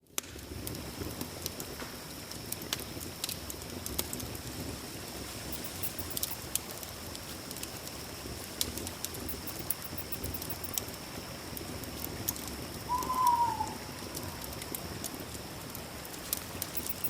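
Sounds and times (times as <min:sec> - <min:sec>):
campfire crackling and popping: 0:00.0 - 0:12.9, 0:14.0 - 0:17.0
night insects droning: 0:00.4 - 0:17.0.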